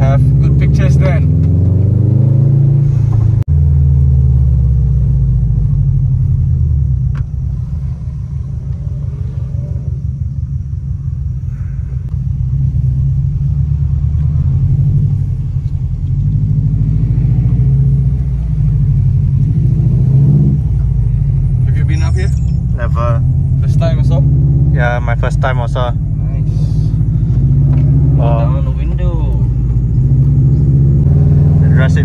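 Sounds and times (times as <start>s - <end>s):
car engine and tyre drone: 0.0s - 32.0s.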